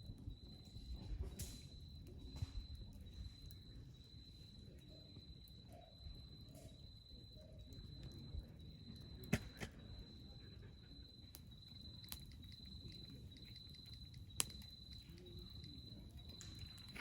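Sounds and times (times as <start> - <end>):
wood fire crackling and popping: 0.0 - 10.5, 11.1 - 17.0.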